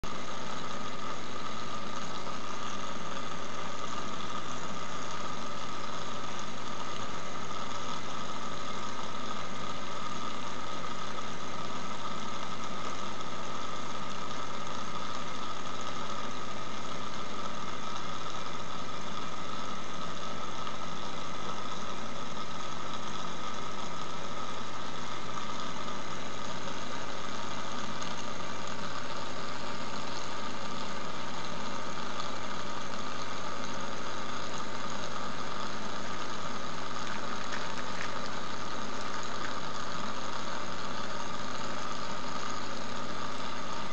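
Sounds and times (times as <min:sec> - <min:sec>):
aquarium pump hum: 0:00.0 - 0:43.9
bubbling water hiss: 0:00.1 - 0:43.9.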